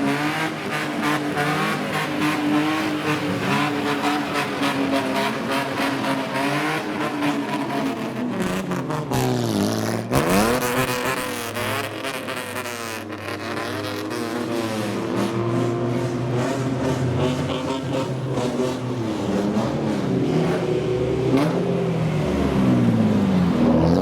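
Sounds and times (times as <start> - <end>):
car engine revving loudly: 0.0 - 24.0.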